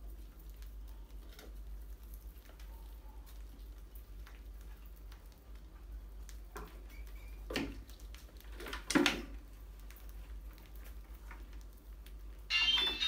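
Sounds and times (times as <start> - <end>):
mice scrabbling and scratching: 0.0 - 12.4.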